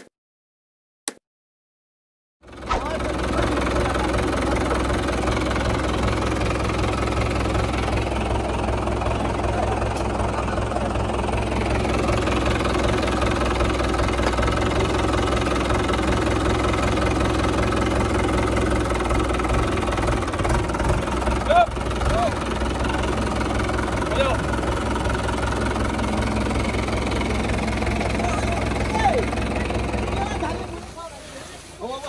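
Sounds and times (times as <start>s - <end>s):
tractor diesel engine idling: 2.4s - 32.0s.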